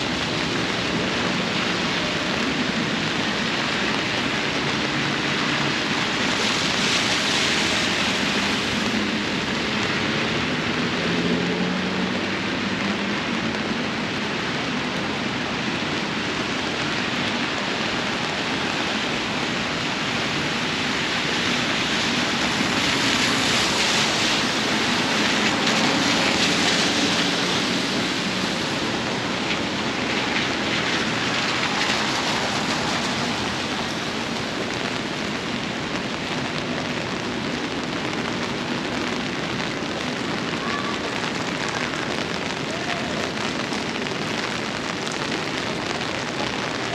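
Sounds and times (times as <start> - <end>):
heavy rain downpour: 0.0 - 46.9.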